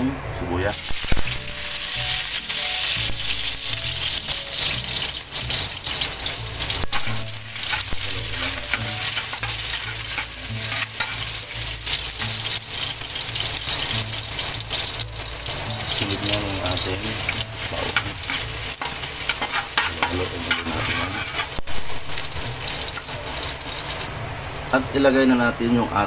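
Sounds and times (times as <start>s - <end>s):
metal spatula scraping a wok: 0.7s - 16.4s, 17.1s - 24.1s
onions sizzling in hot oil: 0.7s - 26.0s.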